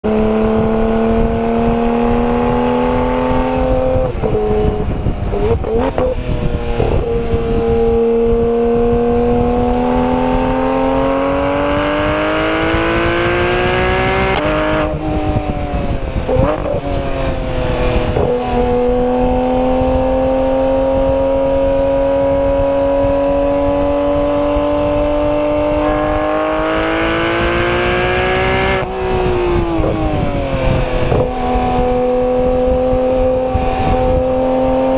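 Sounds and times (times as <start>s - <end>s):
sports car exhaust under load: 0.0s - 34.9s.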